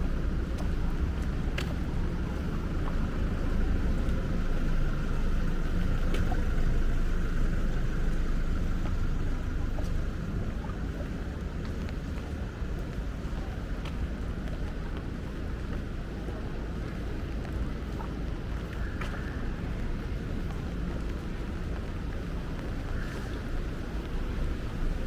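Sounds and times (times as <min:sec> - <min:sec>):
low rumble: 0:00.0 - 0:25.0
raindrops ticking close by: 0:00.0 - 0:25.0.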